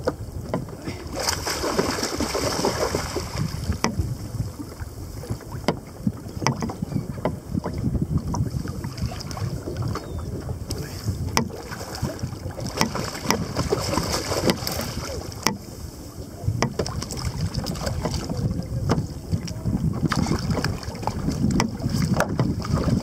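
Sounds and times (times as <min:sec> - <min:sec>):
water lapping against a kayak: 0:00.0 - 0:23.0
wind buffeting microphone: 0:00.0 - 0:23.0.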